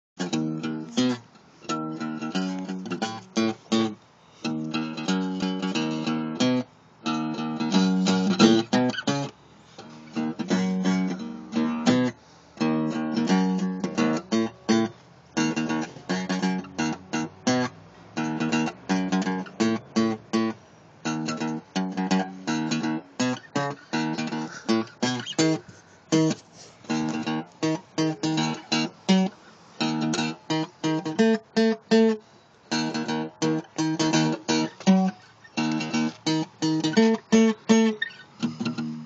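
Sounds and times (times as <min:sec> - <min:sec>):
acoustic guitar strumming: 0:00.2 - 0:39.0.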